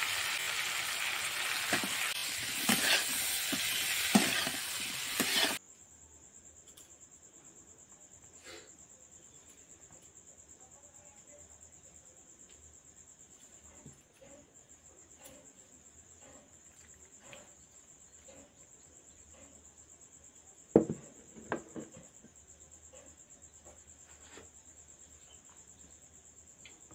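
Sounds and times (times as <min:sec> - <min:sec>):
crickets trilling: 0:00.0 - 0:26.9.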